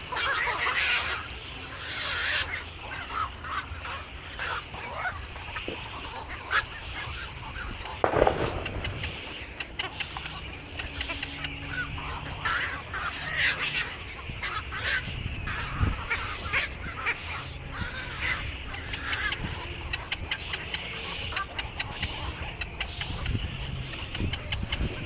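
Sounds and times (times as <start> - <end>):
birds chirping and squawking: 0.0 - 25.0
low steady hum: 0.0 - 25.0.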